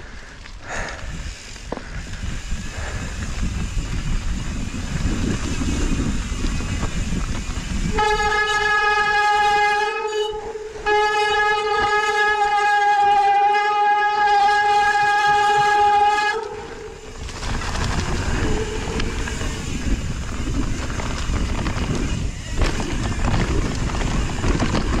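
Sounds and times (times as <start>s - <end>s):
bike tyres rumbling over dirt: 0.0s - 25.0s.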